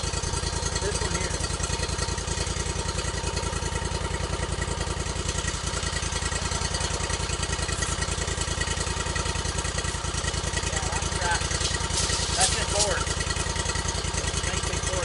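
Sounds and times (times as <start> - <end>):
small gas engine idling: 0.0 - 15.0.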